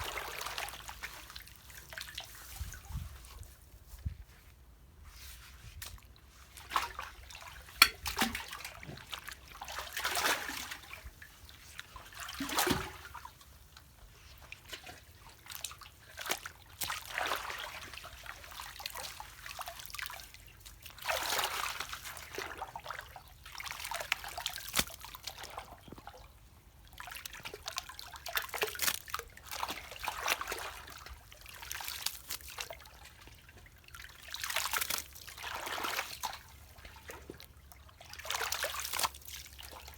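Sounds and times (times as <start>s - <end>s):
water splashing and trickling: 0.0s - 4.1s, 5.7s - 39.9s.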